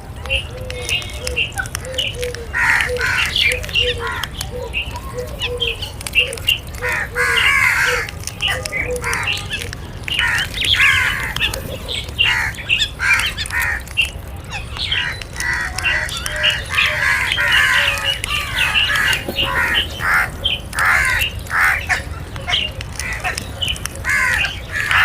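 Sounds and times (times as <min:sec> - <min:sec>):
crows cawing: 0:00.5 - 0:04.4, 0:06.3 - 0:25.0.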